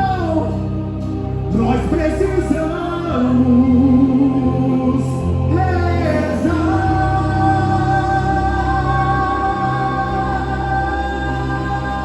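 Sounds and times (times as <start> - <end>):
person singing long notes: 2.2 - 12.0.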